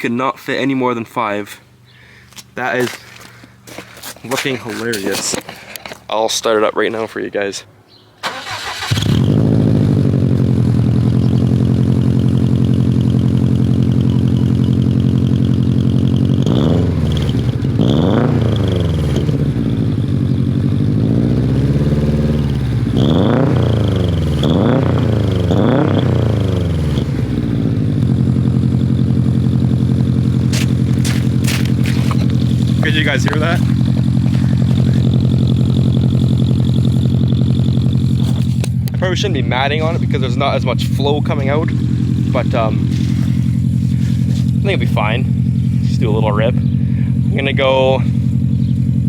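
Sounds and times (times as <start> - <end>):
car engine starting and revving: 8.2 - 49.0.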